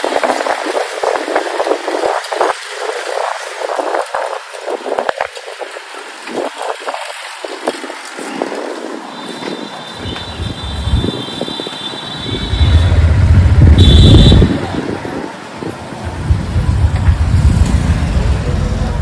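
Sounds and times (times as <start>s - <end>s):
street traffic: 0.0s - 19.0s
wind noise on microphone: 0.0s - 19.0s
low rumble of vehicles: 0.2s - 19.0s.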